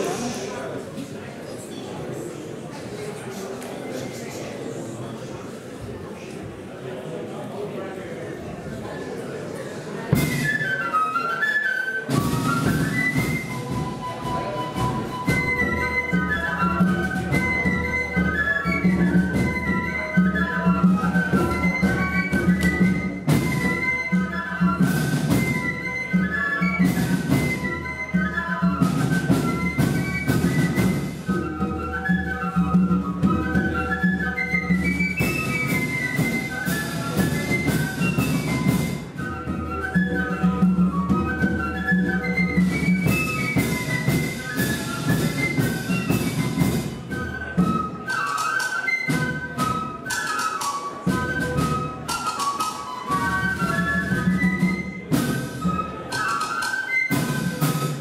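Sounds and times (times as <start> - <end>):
flutes playing melody: 8.6 - 58.0
drums and percussion strikes: 10.1 - 11.0, 12.0 - 58.0.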